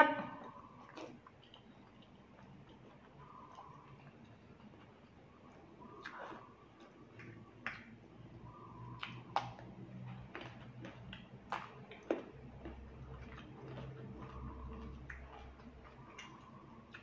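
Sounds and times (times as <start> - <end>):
faint low hum: 0.0 - 17.0
chewing noodles: 0.3 - 17.0.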